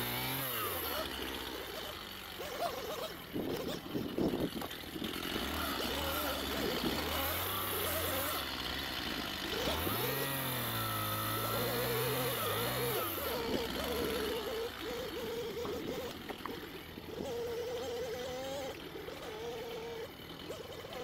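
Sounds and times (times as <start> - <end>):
engine running and revving: 0.0 - 21.0.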